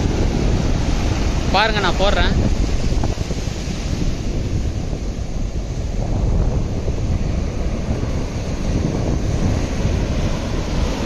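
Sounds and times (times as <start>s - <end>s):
waves washing on shore: 0.0s - 11.0s
wind buffeting microphone: 0.0s - 11.0s.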